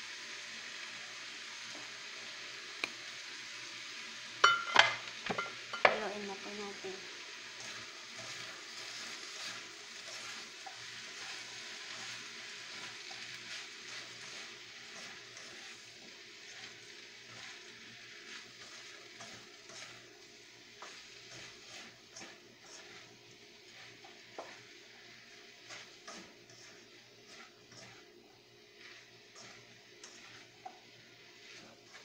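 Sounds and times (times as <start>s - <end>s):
vegetables sizzling in a wok: 0.0s - 32.0s
spatula scraping a wok: 5.3s - 32.0s.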